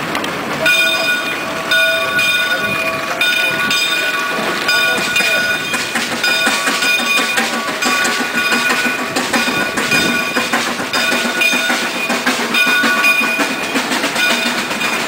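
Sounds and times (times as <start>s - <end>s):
steam truck rattling past: 0.0s - 15.0s.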